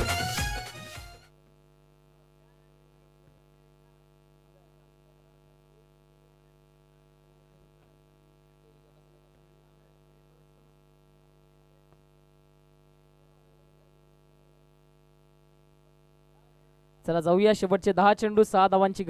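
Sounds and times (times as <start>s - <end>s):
faint electrical mains hum: 0.0s - 19.0s.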